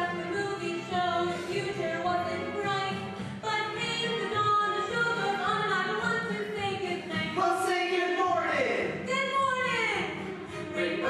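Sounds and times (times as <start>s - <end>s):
voices singing together: 0.6s - 11.0s.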